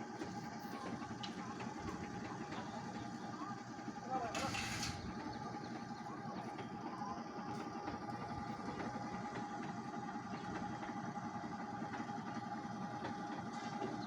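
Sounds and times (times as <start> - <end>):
pump engine rumbling: 0.0 - 14.0.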